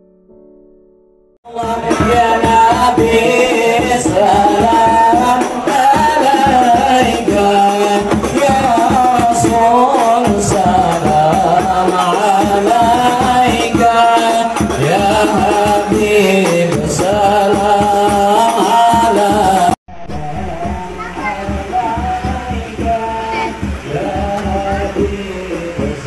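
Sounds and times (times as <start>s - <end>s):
frame drums beating: 1.5s - 26.0s
man singing through a microphone: 1.5s - 26.0s.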